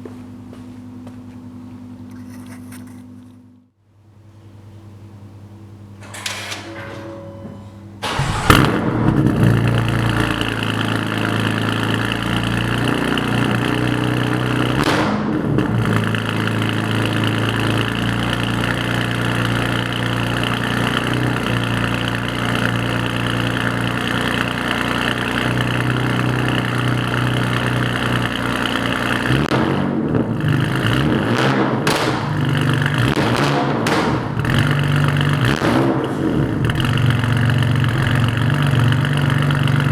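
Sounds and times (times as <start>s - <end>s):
engine throttle blips: 4.4s - 39.9s
car engine starting and idling: 5.6s - 39.9s.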